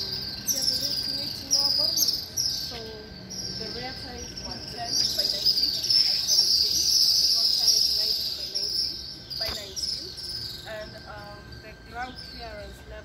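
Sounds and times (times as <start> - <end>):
high-pitched insect chirring: 0.0 - 13.0.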